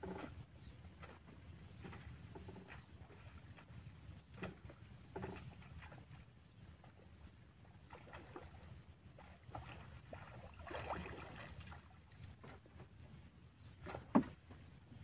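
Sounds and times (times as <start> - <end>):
soft splashes: 0.0 - 13.0
water lapping against boat hull: 0.0 - 15.0.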